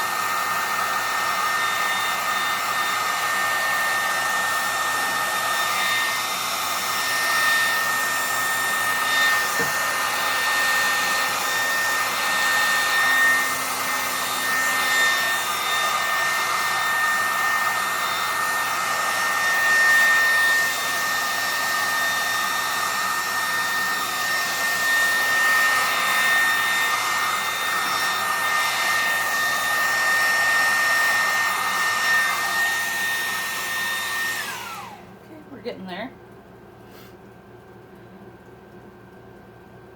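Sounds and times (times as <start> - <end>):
hair dryer running: 0.0 - 36.2.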